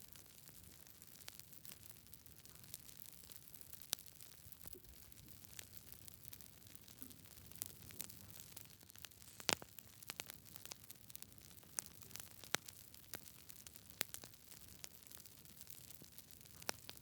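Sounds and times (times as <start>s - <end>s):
faint low hiss: 0.0s - 17.0s
wood fire crackling: 0.0s - 17.0s.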